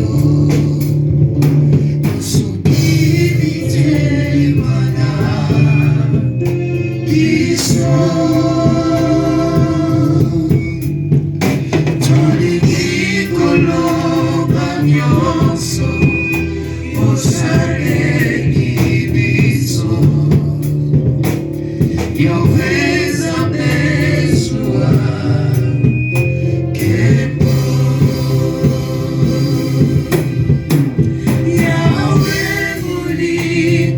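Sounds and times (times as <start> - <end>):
gospel voices singing: 0.0 - 33.9
steady bass line: 0.0 - 33.9.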